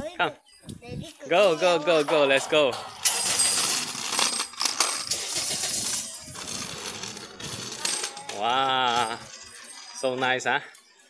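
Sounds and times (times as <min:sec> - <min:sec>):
scooter wheels rattling on concrete: 0:01.6 - 0:10.6.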